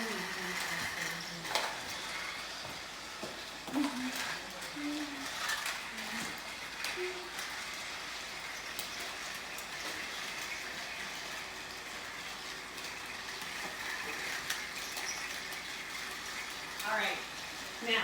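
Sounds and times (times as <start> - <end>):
toy train motors whirring: 0.0 - 18.0.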